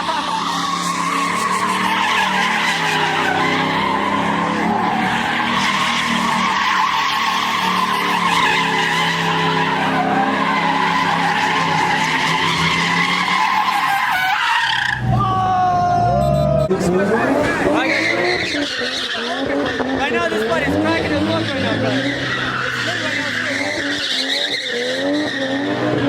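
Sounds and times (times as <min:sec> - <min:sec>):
car engine running hard: 0:00.0 - 0:14.2, 0:14.8 - 0:26.0
car tires squealing: 0:00.0 - 0:26.0.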